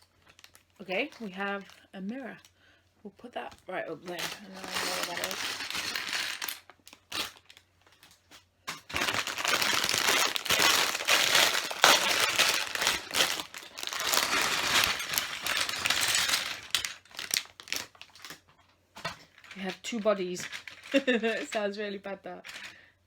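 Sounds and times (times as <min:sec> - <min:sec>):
plastic bags crinkling: 0:00.0 - 0:02.6, 0:03.3 - 0:21.8, 0:22.4 - 0:22.8.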